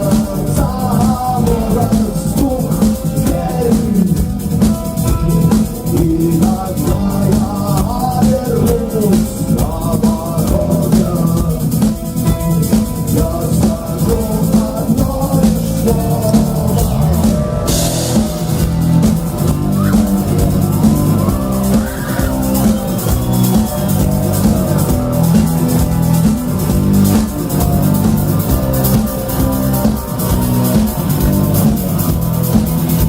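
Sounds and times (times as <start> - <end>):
bass guitar: 0.0 - 33.0
drum kit: 0.0 - 33.0
electric guitar: 0.0 - 33.0.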